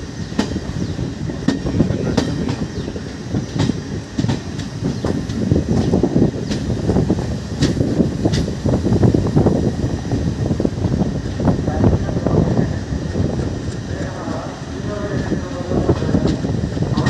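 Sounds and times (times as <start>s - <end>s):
train wheels rumbling on track: 0.0s - 17.0s
wheels clacking over rail joints: 0.0s - 17.0s.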